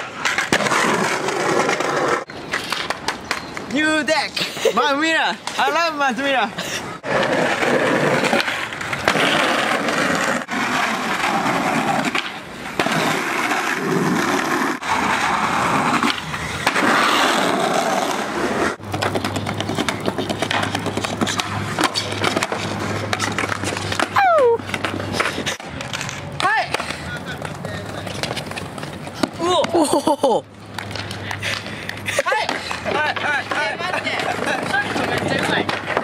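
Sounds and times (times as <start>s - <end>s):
skateboard wheels rolling on concrete: 0.0s - 36.0s.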